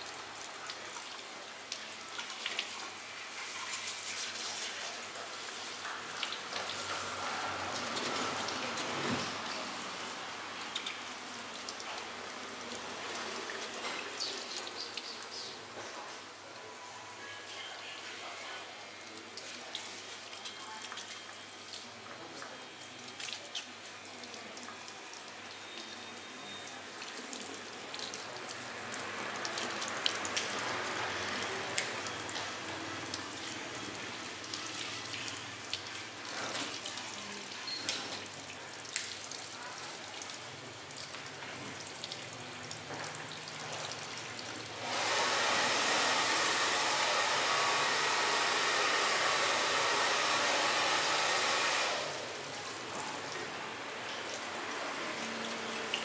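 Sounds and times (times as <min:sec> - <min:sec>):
shower sprayer water splashing: 0:00.0 - 0:15.7, 0:19.0 - 0:56.0.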